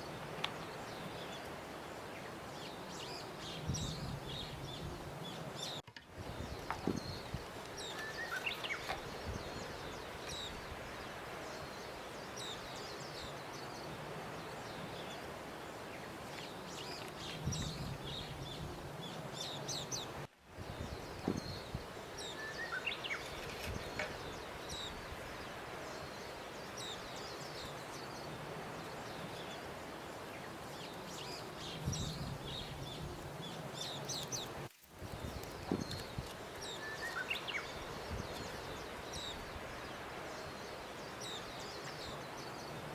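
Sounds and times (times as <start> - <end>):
small birds chirping: 0.0 - 13.9, 16.0 - 42.9
steady outdoor hiss: 0.0 - 42.9.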